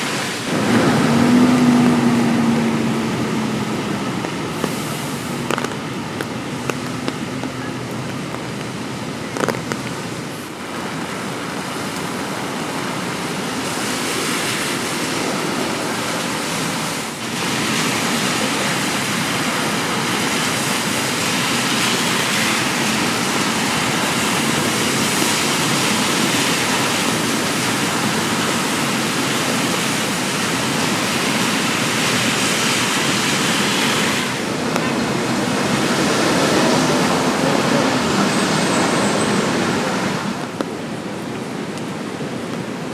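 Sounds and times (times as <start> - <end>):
rain falling on street: 0.0 - 42.9.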